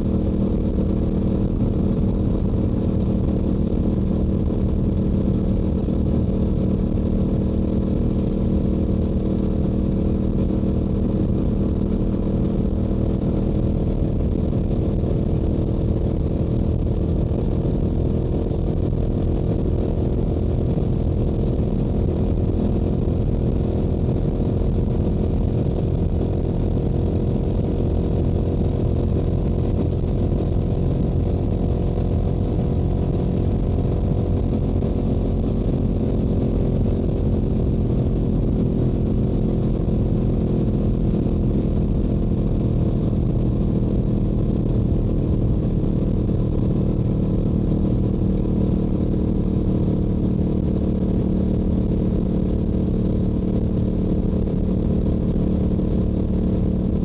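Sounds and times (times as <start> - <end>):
motorcycle engine exhaust cruising: 0.0 - 57.0
wind rumble on microphone: 0.0 - 57.0.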